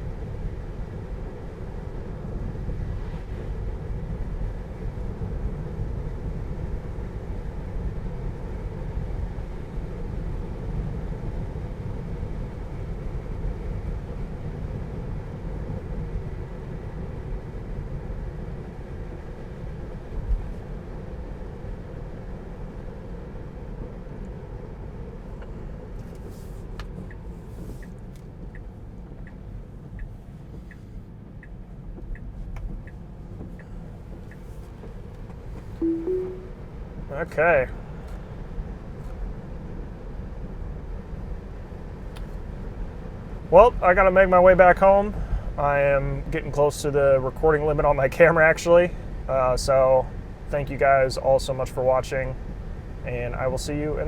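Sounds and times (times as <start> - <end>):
road and tyre noise in car: 0.0 - 35.8, 36.8 - 54.0.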